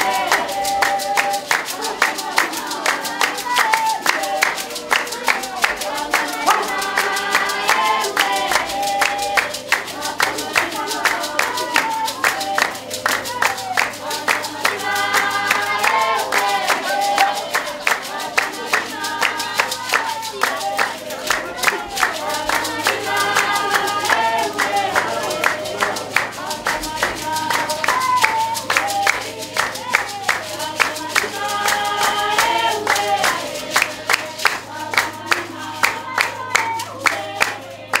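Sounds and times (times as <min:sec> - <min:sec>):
group singing in several voices: 0:00.0 - 0:38.0
hand clapping: 0:00.0 - 0:38.0.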